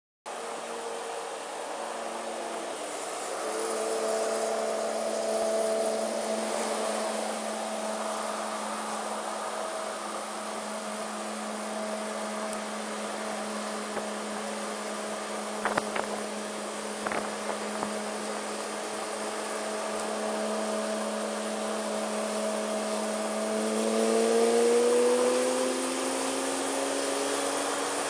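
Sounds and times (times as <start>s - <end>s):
wind and road noise: 0.3s - 28.0s
scooter engine running: 3.2s - 28.0s.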